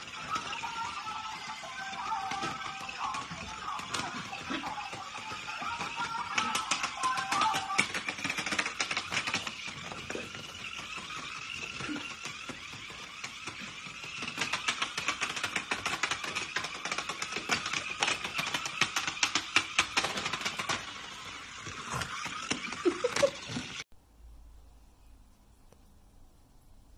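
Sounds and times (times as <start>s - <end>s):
toy clicking and rattling: 0.0s - 23.8s.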